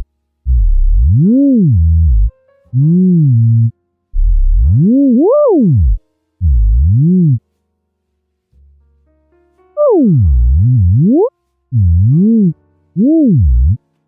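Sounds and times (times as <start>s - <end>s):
synthesized tone sliding in pitch: 0.0s - 7.4s, 9.8s - 13.8s.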